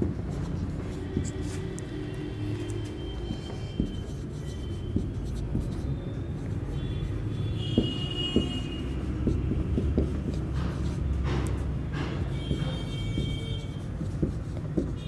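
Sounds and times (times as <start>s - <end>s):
marker writing on whiteboard: 0.0s - 15.0s
marker tip tapping board: 2.5s - 15.0s.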